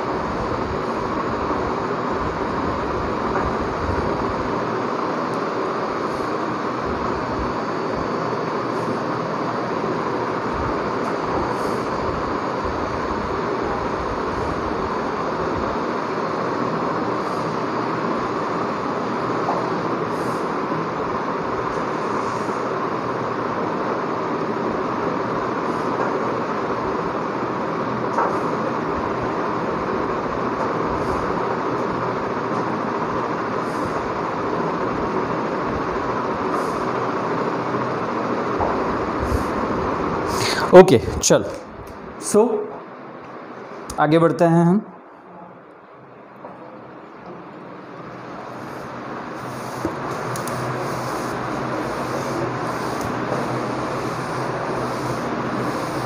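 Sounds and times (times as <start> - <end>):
steady rushing hiss: 0.0 - 44.7, 46.1 - 56.0.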